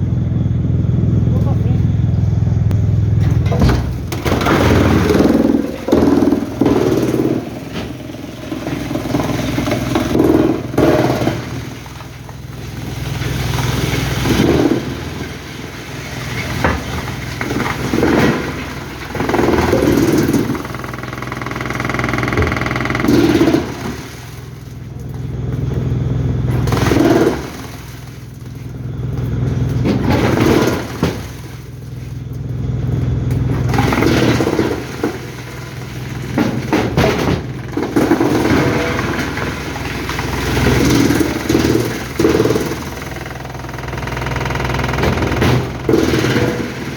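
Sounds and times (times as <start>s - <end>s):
engine knocks: 0.0s - 46.9s
heavy engine running: 0.0s - 46.9s.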